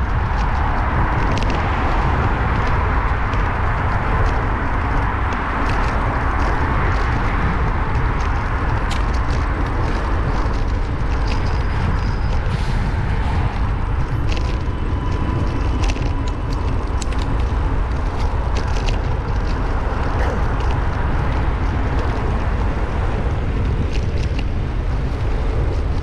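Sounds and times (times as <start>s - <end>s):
small ticks and rattles: 0.0s - 26.0s
wind and road noise: 0.0s - 26.0s.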